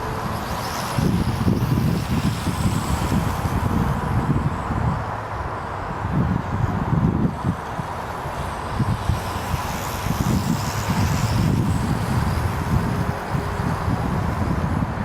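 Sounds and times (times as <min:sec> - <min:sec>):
faint quadcopter motor hum: 0:00.0 - 0:05.5, 0:06.6 - 0:15.0
wind buffeting microphone: 0:00.0 - 0:15.0.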